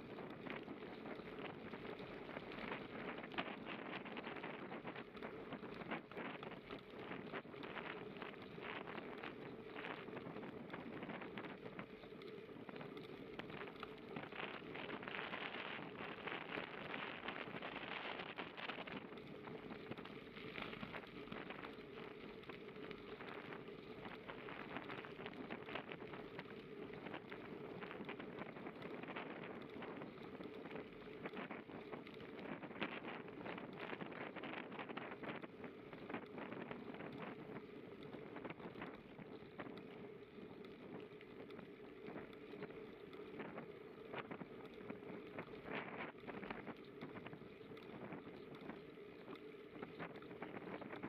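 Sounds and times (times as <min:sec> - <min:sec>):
bicycle tyres crunching on gravel: 0:00.0 - 0:51.0.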